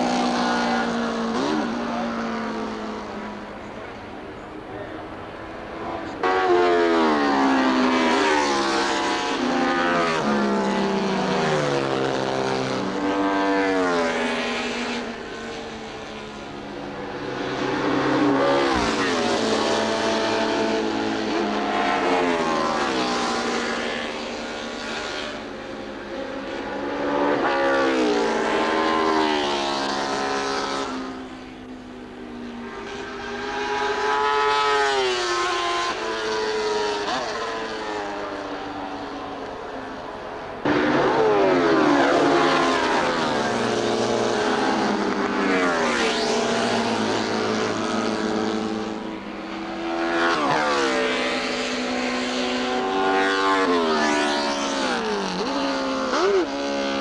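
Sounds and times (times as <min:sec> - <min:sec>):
racing motorcycle revving: 0:00.0 - 0:57.0.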